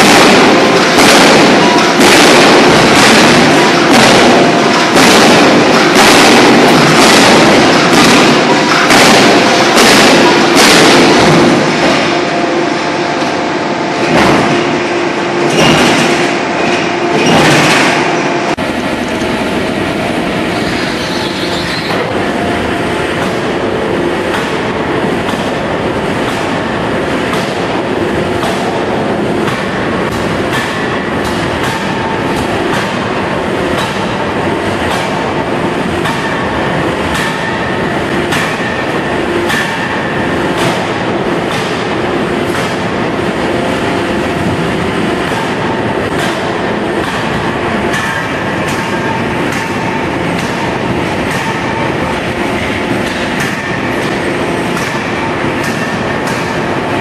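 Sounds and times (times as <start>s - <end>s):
industrial din: 0.0s - 57.0s.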